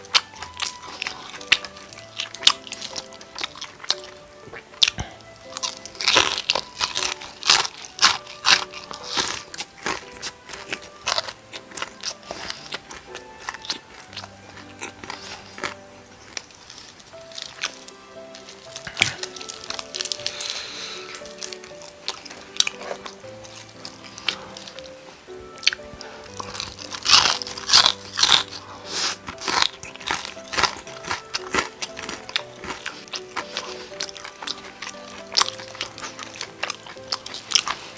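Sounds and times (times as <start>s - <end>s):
crunchy chewing: 0.0s - 37.9s
soft background music: 0.0s - 37.9s.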